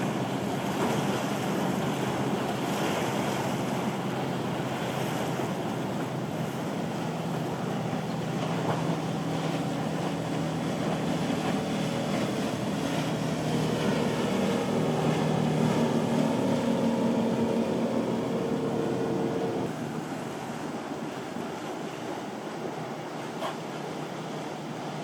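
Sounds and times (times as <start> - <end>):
surf hissing: 0.0 - 21.1
motorboat engines running: 0.0 - 25.0
wind: 0.0 - 25.0.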